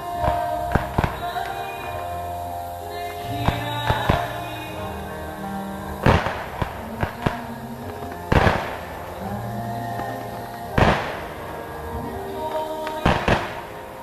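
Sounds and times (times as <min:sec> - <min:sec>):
fireworks booming: 0:00.0 - 0:14.0
music: 0:00.0 - 0:14.0.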